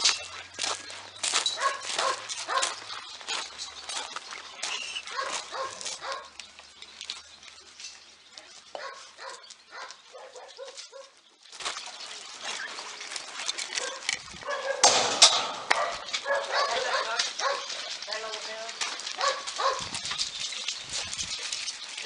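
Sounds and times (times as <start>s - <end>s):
dogs barking: 0.0s - 6.5s, 7.4s - 11.2s, 13.6s - 22.0s.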